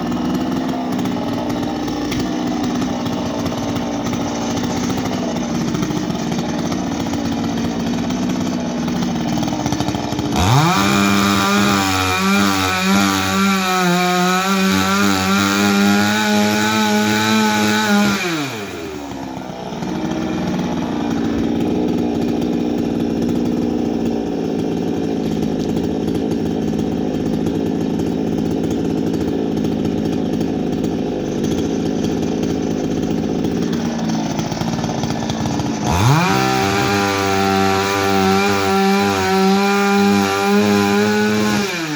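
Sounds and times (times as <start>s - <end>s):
chainsaw engine idling and revving: 0.0s - 41.9s.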